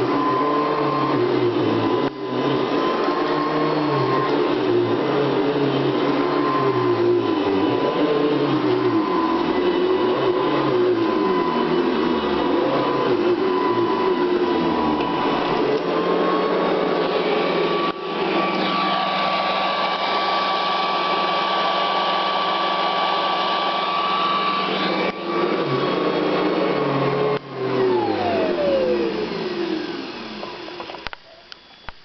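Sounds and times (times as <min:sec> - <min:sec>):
upright vacuum motor whine: 0:00.0 - 0:32.0.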